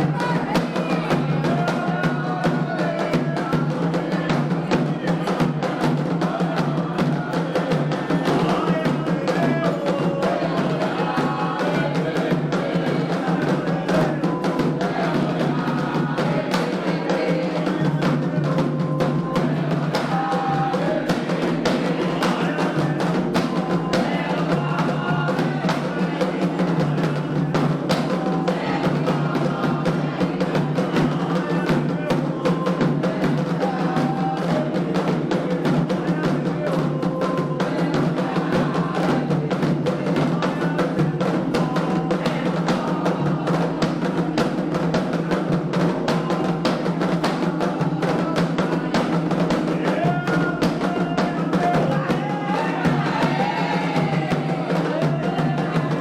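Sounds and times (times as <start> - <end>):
hand drums fast rhythm: 0.0 - 56.0
sharp percussive beat: 0.0 - 56.0
voices singing: 0.0 - 56.0.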